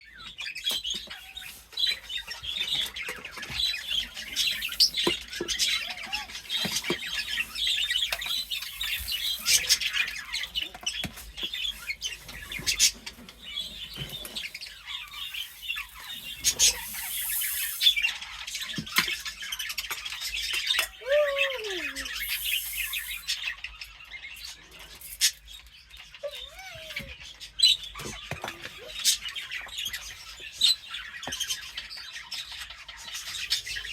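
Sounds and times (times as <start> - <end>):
caged birds chirping: 0.0 - 33.9.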